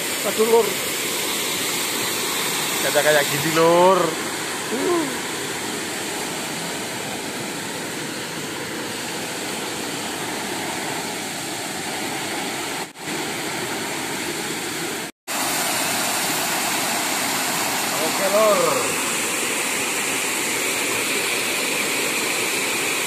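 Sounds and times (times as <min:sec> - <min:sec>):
waterfall rushing over weir: 0:00.0 - 0:23.0.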